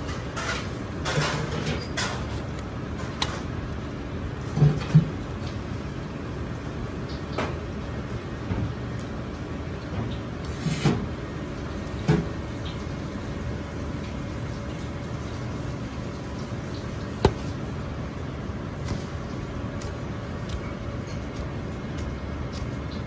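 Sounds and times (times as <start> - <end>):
kitchen background rumble: 0.0 - 23.0.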